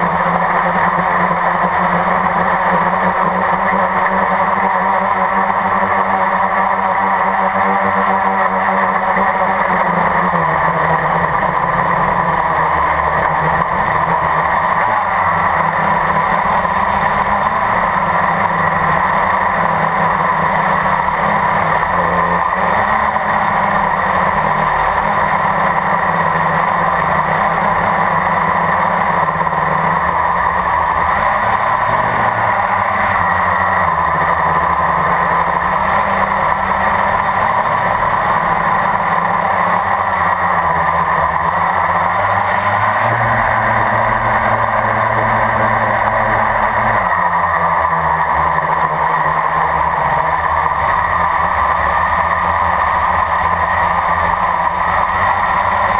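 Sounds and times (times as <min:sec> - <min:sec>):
quadcopter motors and propellers: 0:00.0 - 0:55.9.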